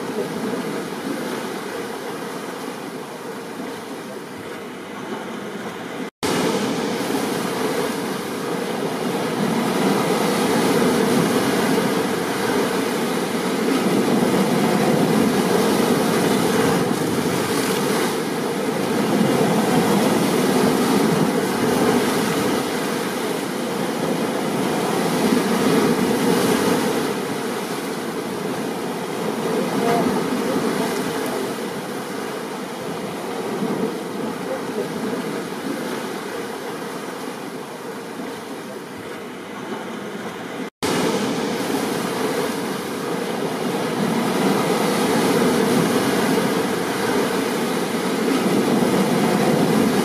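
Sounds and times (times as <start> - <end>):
storm surf: 6.0 - 38.8, 39.8 - 50.0.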